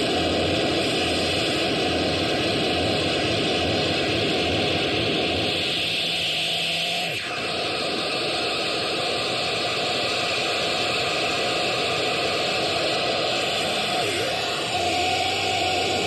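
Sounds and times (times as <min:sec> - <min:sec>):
dense noise drone: 0:00.0 - 0:16.0.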